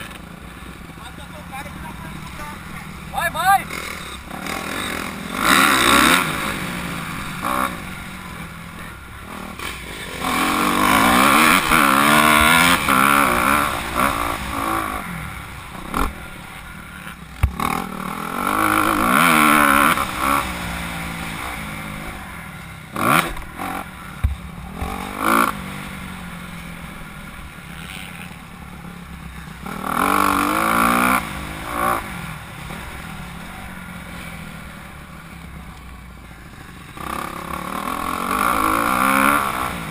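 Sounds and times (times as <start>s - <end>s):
motocross bike revving hard: 0.8s - 28.6s, 29.2s - 34.8s, 36.9s - 39.9s.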